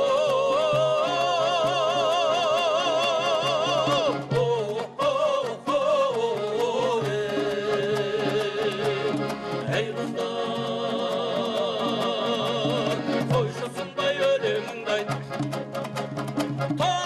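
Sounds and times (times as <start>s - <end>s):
instrumental accompaniment: 0.0s - 17.0s
person singing folk song: 0.0s - 17.0s.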